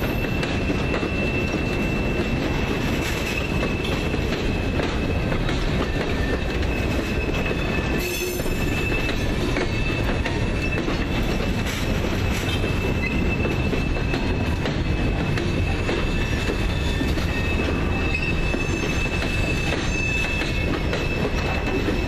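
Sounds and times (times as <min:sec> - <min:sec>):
high-pitched wheel flange squeal: 0:00.0 - 0:22.0
train wheels rumbling on rail: 0:00.0 - 0:22.0
wheels clacking over rail joints: 0:00.0 - 0:22.0.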